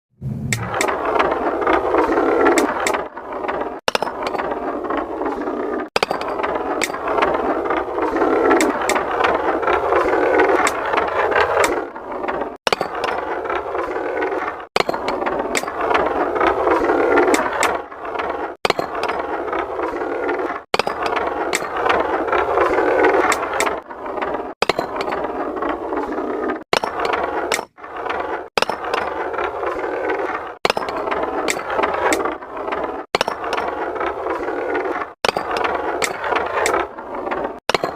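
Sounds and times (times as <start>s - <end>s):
marbles clicking against track: 0.5s - 37.9s
marbles rolling on track: 0.5s - 37.9s.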